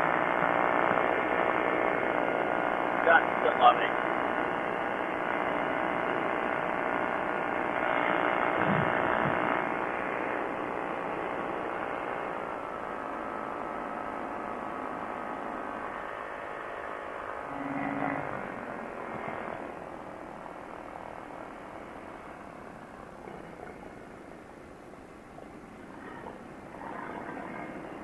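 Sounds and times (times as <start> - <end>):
ultralight aircraft engine drone: 0.0 - 28.0.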